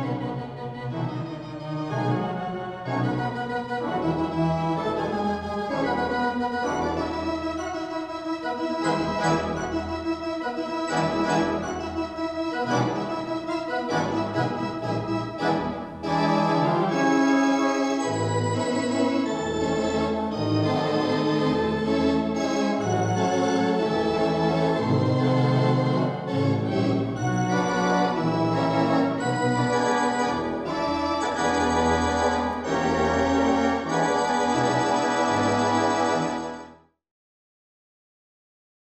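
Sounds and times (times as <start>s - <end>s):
pipe organ playing chords: 0.0s - 36.8s.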